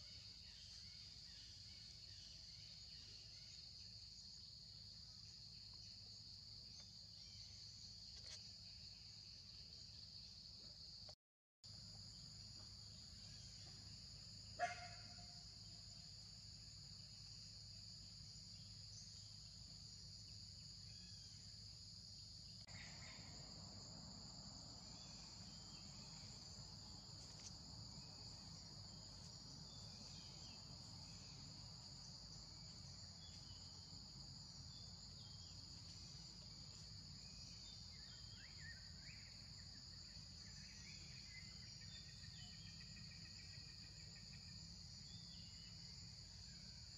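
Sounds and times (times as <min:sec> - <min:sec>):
high-pitched insect chorus: 0:00.0 - 0:46.9.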